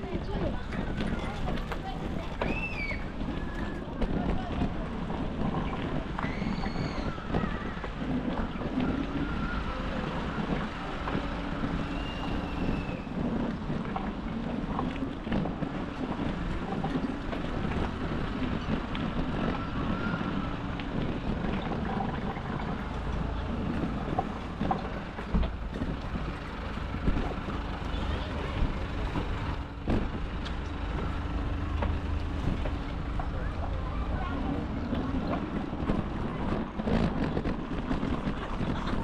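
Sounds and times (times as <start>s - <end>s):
bicycle tyres rolling on trail: 0.0s - 39.0s
wind on microphone: 0.0s - 39.0s.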